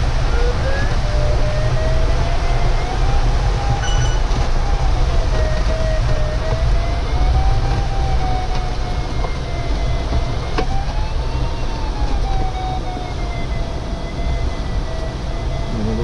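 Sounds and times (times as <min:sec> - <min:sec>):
airflow rushing over canopy: 0:00.0 - 0:15.5
electronic tone sliding in pitch: 0:00.0 - 0:16.0.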